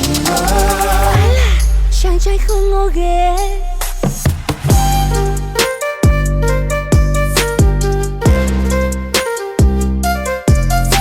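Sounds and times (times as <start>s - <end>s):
instrumental pop music: 0.0s - 11.0s.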